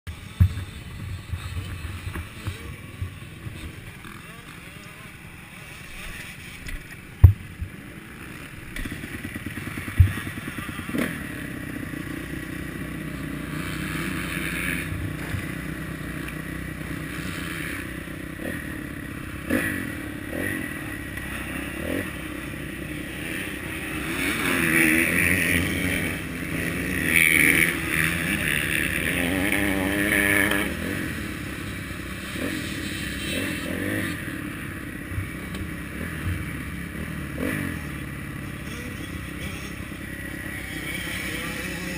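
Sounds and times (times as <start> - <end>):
motocross bike engine revving: 0.1 - 41.9.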